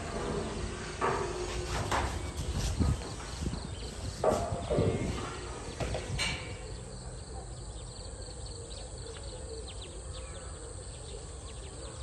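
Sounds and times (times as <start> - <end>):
outdoor background noise: 0.0 - 12.0
small birds chirping: 1.9 - 12.0.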